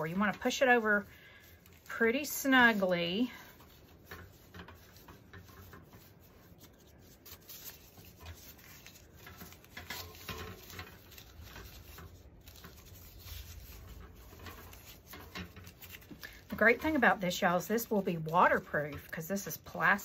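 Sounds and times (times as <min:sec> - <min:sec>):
plastic strips rustling: 0:00.0 - 0:20.0.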